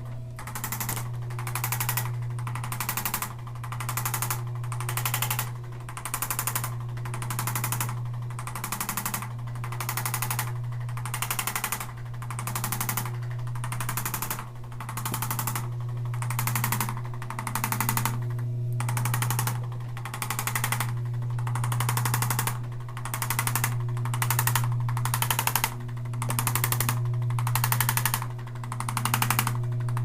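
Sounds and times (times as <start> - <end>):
low electric hum: 0.0 - 30.0
rapid mechanical buzz: 0.0 - 30.0.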